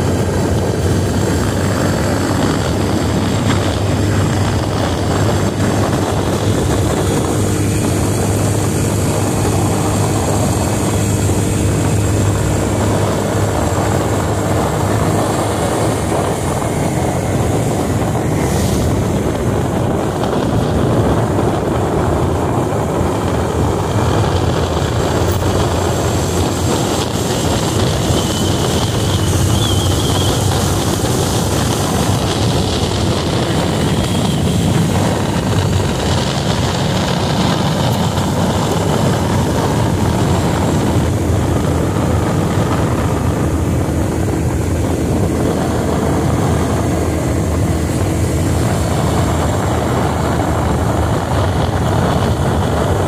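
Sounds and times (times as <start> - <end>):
motorcycle engine running: 0.0 - 53.0
wind rush over microphone: 0.0 - 53.0.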